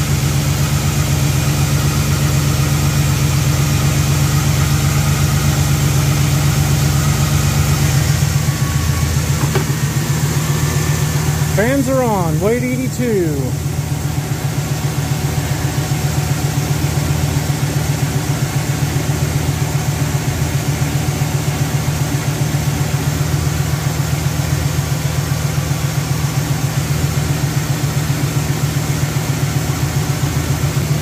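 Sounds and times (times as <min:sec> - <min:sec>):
electric radiator fans running: 0:00.0 - 0:31.0
engine idling: 0:00.0 - 0:31.0.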